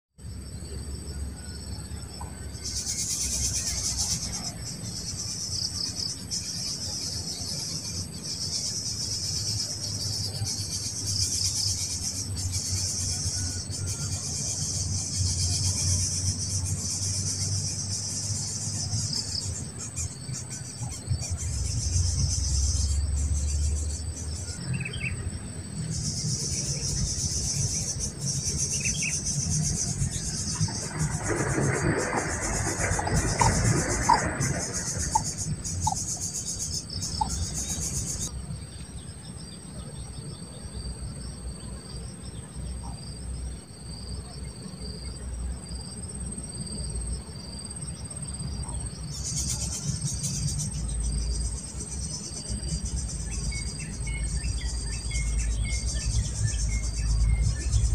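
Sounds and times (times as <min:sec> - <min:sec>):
insects buzzing in chorus: 0:00.2 - 0:57.9
faint chirps: 0:00.3 - 0:57.9.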